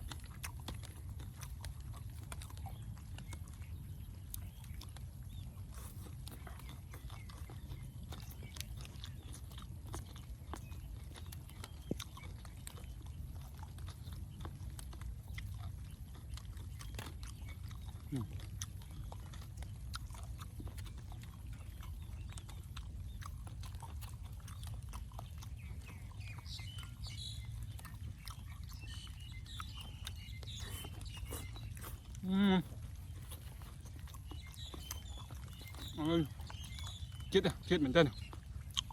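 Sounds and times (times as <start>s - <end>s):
low background hum: 0.0s - 38.9s
person chewing: 0.0s - 38.9s.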